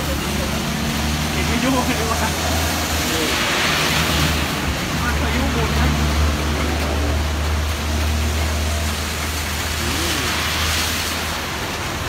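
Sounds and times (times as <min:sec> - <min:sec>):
rain rushing: 0:00.0 - 0:12.0.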